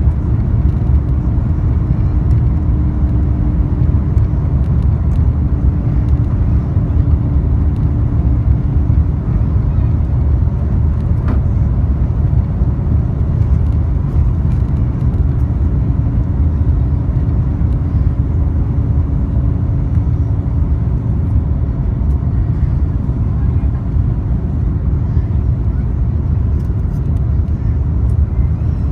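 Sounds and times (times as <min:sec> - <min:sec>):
airplane cabin roar: 0:00.0 - 0:28.9.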